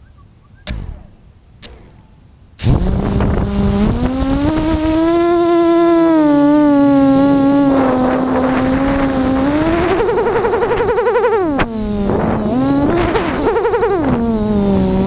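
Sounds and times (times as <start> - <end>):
quadcopter motors whining: 0.7 - 15.0.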